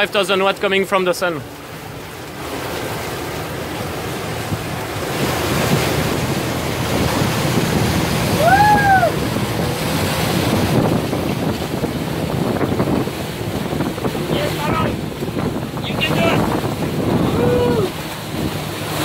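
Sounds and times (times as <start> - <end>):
water rushing along boat hull: 0.0 - 19.0
wind buffeting microphone: 1.6 - 19.0.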